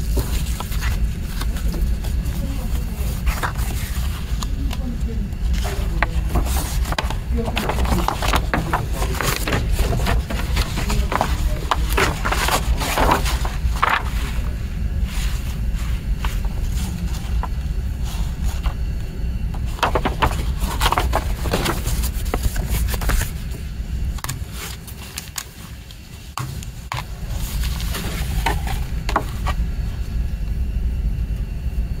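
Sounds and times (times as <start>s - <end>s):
paper rustling: 0.0s - 19.0s, 19.6s - 30.2s
steady low rumble: 0.0s - 32.0s.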